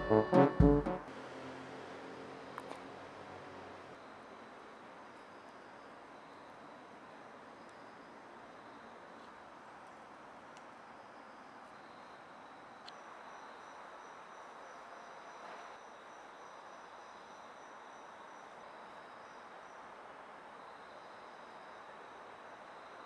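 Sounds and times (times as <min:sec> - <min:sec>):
distant traffic hiss: 0:00.0 - 0:23.0.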